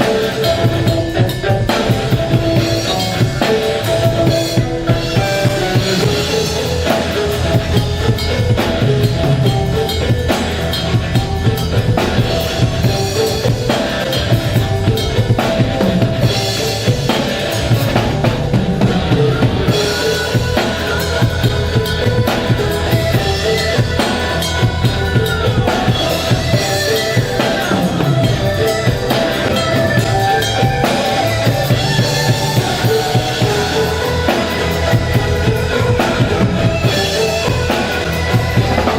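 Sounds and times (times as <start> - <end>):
sustained musical tones: 0.0 - 38.9.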